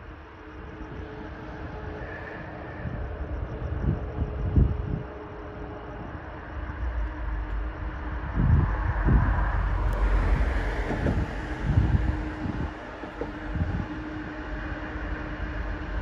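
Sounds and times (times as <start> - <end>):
distant diesel locomotive drone: 0.0 - 16.0
wheel and rail noise: 0.0 - 16.0
wind buffeting microphone: 0.0 - 16.0.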